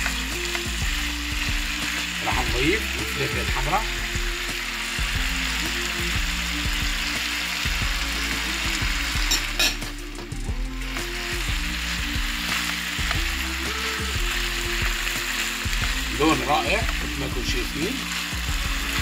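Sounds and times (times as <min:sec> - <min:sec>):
food sizzling in frying pan: 0:00.0 - 0:19.0.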